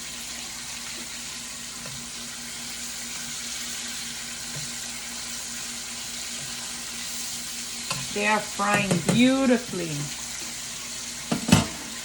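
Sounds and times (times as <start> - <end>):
chicken wings frying in oil: 0.0 - 12.0.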